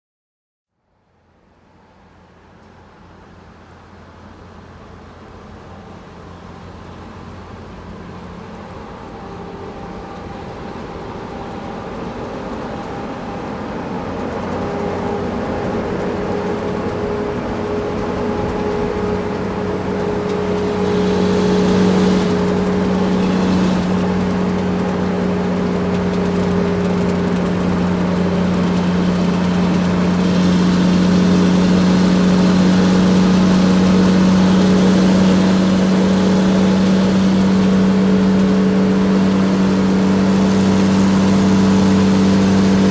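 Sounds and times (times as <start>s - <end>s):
truck engine running: 2.4s - 42.9s.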